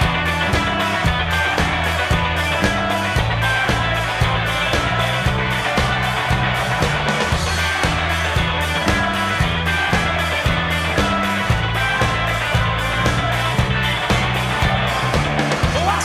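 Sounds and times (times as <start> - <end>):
bass riff: 0.0 - 16.0
drums steady beat: 0.0 - 16.0
electric guitar: 0.0 - 16.0.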